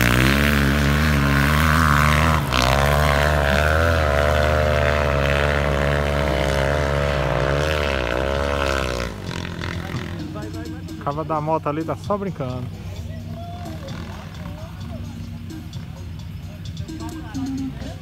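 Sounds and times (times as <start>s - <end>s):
low engine note: 0.0s - 18.0s
motorcycle engine revving: 0.0s - 18.0s.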